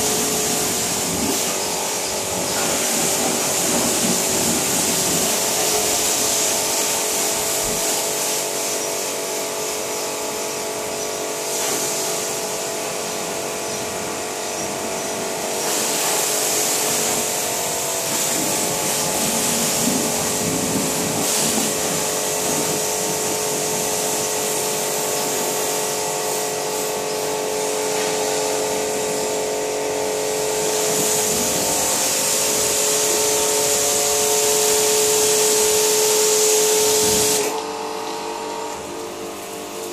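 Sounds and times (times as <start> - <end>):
pressure washer motor whine: 0.0 - 39.9
water jet hissing on car: 0.0 - 39.9.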